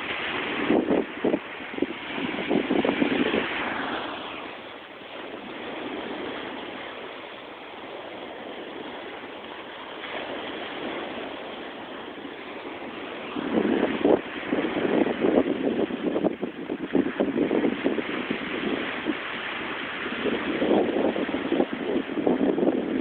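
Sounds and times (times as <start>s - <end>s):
waves washing on sandy beach: 0.0s - 23.0s
wind noise on microphone: 0.0s - 23.0s.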